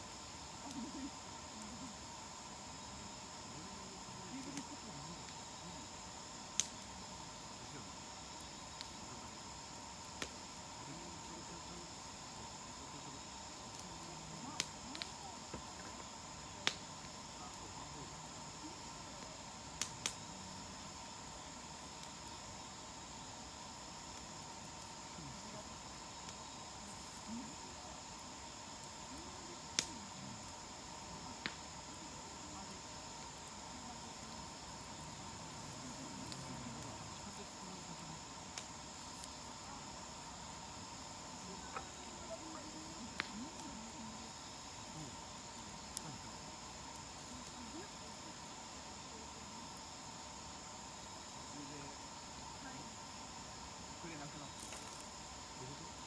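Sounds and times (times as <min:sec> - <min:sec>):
sharp pops of fire: 0:00.0 - 0:48.4, 0:54.5 - 0:56.0
campfire crackling: 0:00.0 - 0:56.0
insects chirring: 0:00.0 - 0:56.0.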